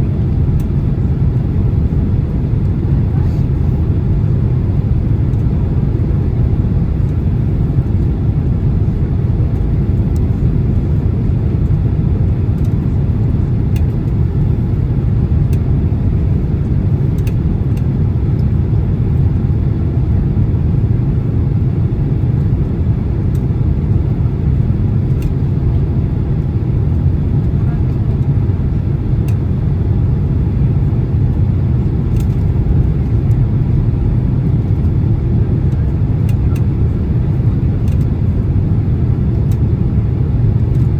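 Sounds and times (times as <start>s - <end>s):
airplane cabin roar: 0.0s - 40.9s.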